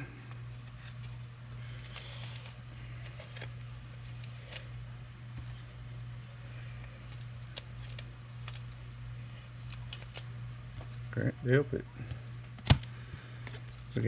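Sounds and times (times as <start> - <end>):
steady low hum: 0.0 - 14.0
cards rustling and clicking: 0.1 - 6.1, 6.8 - 11.0, 12.2 - 14.0.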